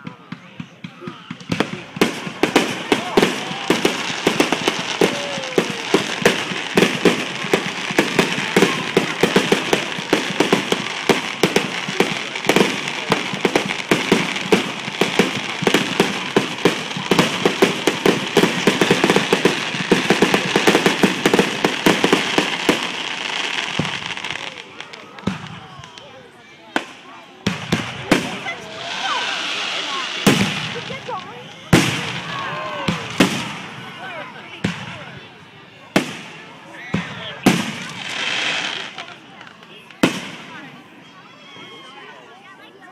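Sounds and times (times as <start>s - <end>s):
fireworks bangs: 0.0s - 40.9s
fireworks crackle: 1.2s - 35.3s, 35.9s - 40.8s.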